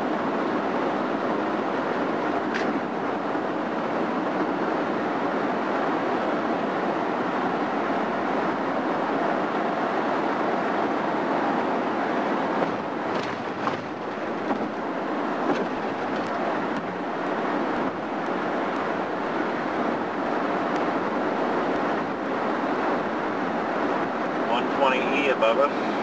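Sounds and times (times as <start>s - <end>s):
road and wind noise inside vehicle: 0.0s - 26.0s.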